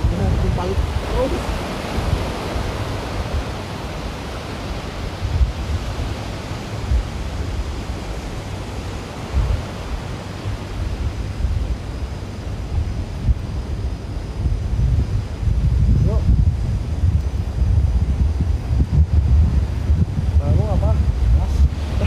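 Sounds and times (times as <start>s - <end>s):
sea surf breaking: 0.0s - 22.0s
wind buffeting microphone: 0.0s - 22.0s.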